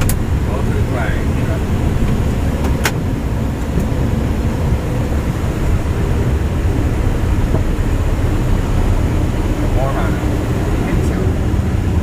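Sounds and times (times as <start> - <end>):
jet airliner rumble: 0.0 - 12.0.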